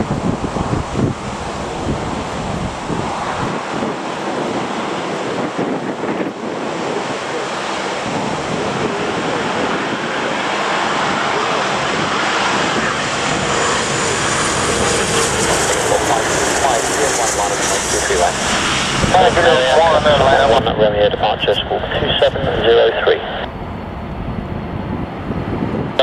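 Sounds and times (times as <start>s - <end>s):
gusting wind: 0.0s - 26.0s
jet engines: 0.0s - 26.0s.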